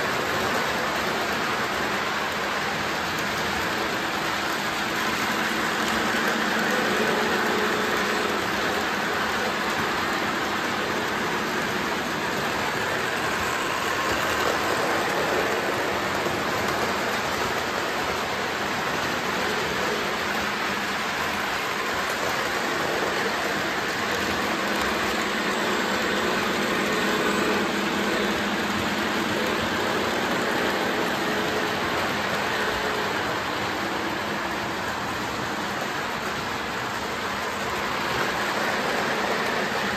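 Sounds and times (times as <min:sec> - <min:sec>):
faint motor hum: 0:00.0 - 0:39.9
model train wheels on rails: 0:00.0 - 0:39.9.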